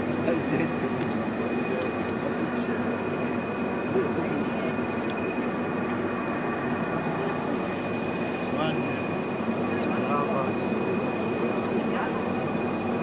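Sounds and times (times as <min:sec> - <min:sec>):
train equipment humming with whine: 0:00.0 - 0:13.0.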